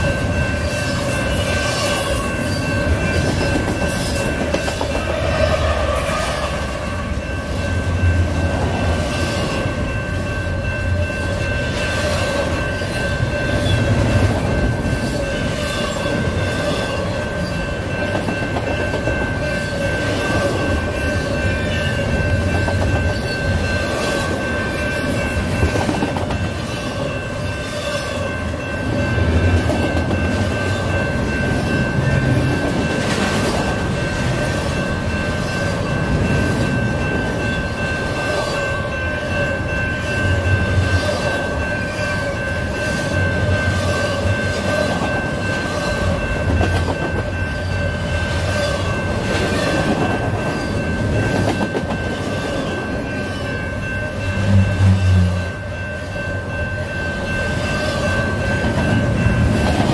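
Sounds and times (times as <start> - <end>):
freight train rumbling: 0.0 - 59.9
level crossing bell ringing: 6.5 - 59.9.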